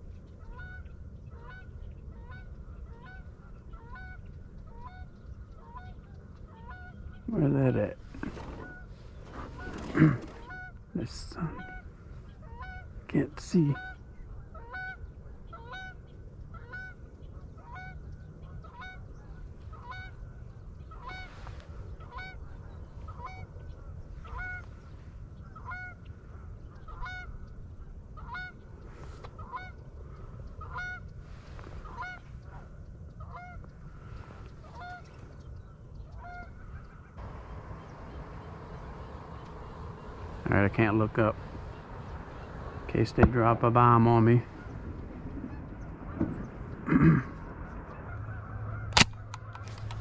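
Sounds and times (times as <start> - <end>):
geese honking: 0.4 - 50.0.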